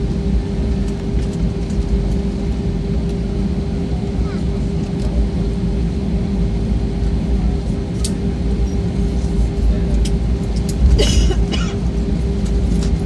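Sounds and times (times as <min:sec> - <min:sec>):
constant hum: 0:00.0 - 0:13.0
jet engines and wheels rumbling: 0:00.0 - 0:13.0.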